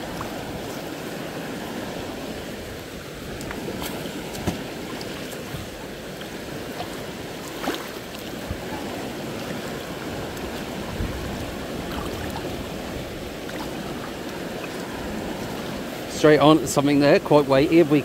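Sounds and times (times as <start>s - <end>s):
rushing outdoor noise: 0.0s - 18.0s.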